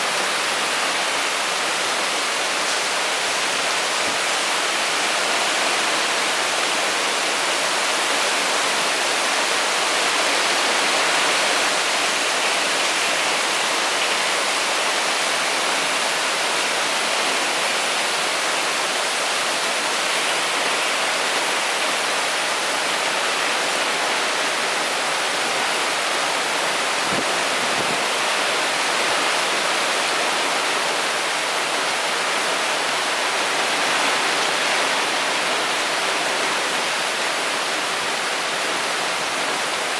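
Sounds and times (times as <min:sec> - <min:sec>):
heavy rain in strong wind: 0:00.0 - 0:39.9.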